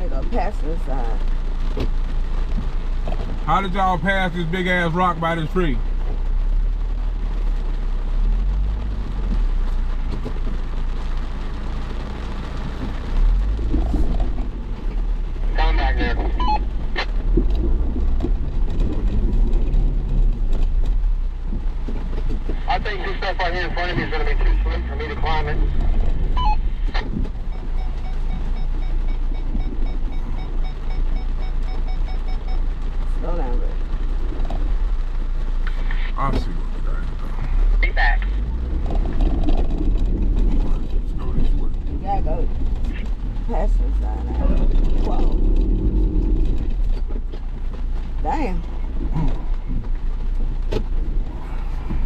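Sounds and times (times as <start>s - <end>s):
off-road engine at low revs: 0.0s - 52.0s.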